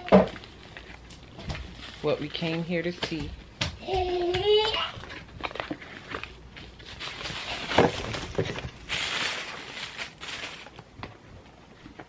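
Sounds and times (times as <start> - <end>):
cardboard packaging rustling: 0.0 - 3.2, 4.0 - 11.2.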